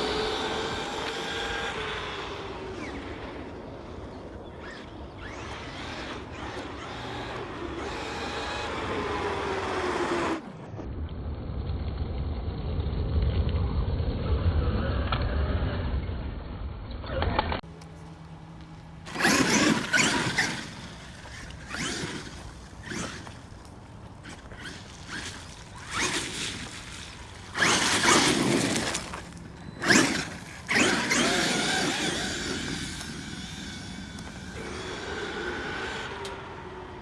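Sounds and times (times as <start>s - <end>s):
electric rc truck motor: 0.0s - 10.5s, 17.6s - 37.0s
tires churning snow: 0.0s - 15.6s, 17.6s - 37.0s.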